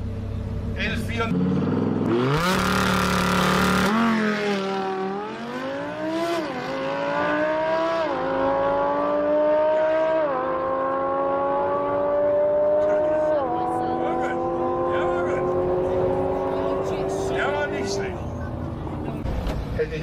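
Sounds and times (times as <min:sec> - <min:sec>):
drag car engine accelerating: 0:01.1 - 0:19.8.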